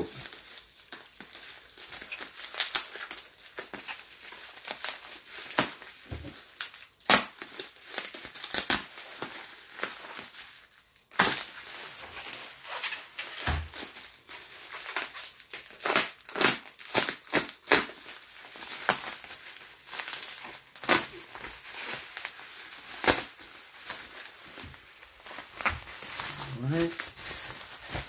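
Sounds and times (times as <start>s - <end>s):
bubble wrap crinkling: 0.0s - 28.0s.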